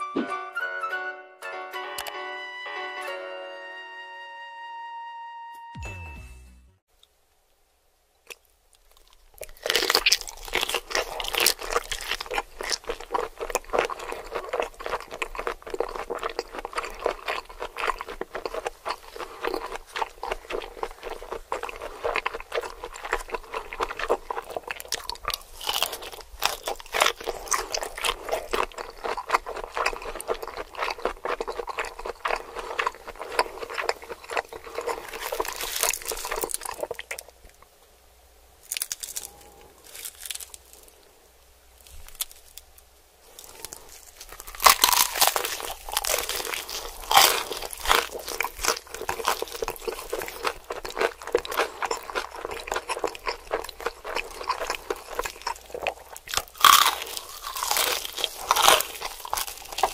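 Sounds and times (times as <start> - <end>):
crunching and chewing fried food: 8.2 - 37.7, 38.6 - 59.9.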